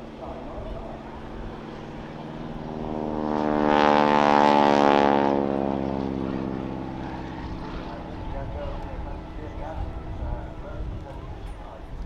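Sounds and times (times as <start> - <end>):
propeller plane engine passing: 0.0 - 12.0.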